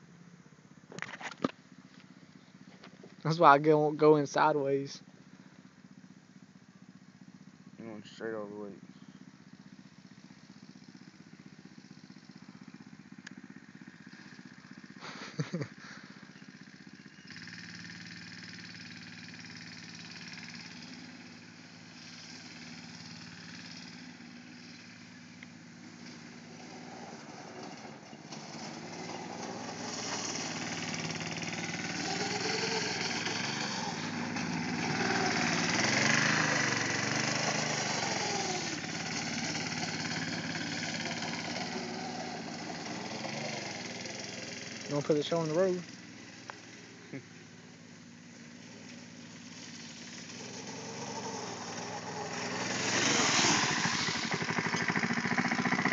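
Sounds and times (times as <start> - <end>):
go-kart engine running: 0.0 - 55.9.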